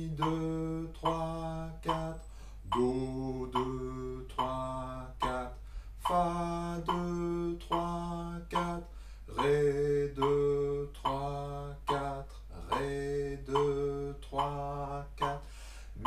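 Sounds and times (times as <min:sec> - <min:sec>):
man singing low notes: 0:00.0 - 0:16.0.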